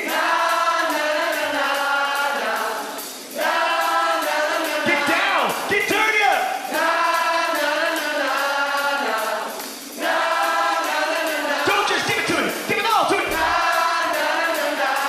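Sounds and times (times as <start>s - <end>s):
drums and cymbals: 0.0s - 15.0s
several voices singing: 0.0s - 15.0s.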